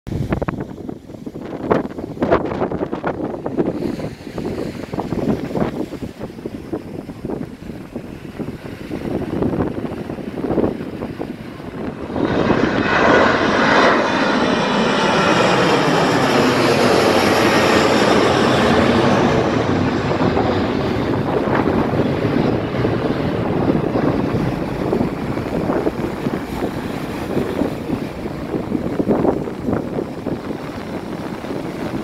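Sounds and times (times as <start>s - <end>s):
jet engines roaring at takeoff: 0.1s - 32.0s.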